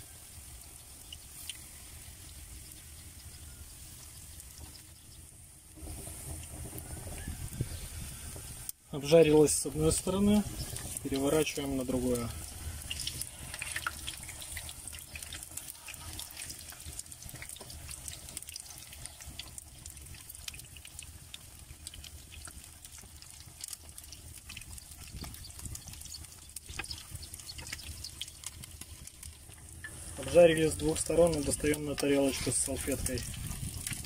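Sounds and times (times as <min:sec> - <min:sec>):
meat sizzling in hot oil: 0:00.0 - 0:34.0.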